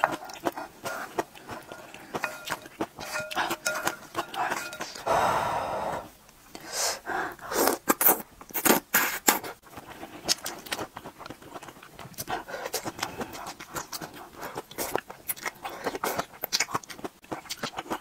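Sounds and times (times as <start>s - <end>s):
soft chewing: 0.0s - 5.1s, 7.3s - 18.0s.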